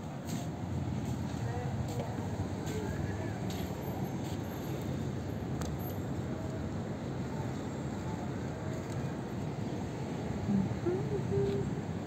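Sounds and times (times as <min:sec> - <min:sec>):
city background rumble: 0:00.0 - 0:12.0.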